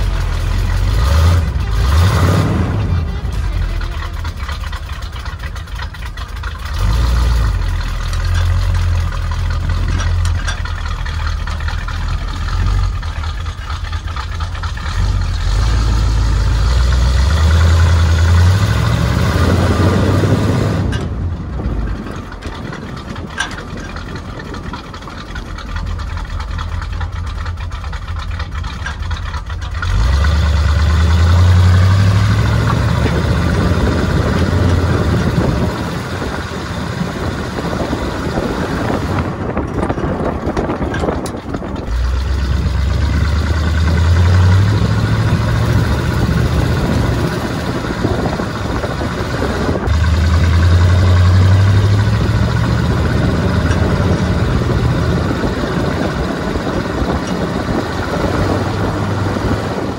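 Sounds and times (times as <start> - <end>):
pickup truck engine accelerating: 0.0 - 59.9.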